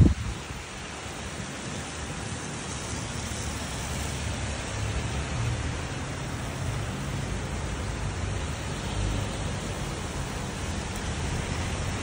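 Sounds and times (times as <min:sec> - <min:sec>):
car tyres hissing on wet road: 0:00.0 - 0:12.0
steady rain: 0:00.0 - 0:12.0.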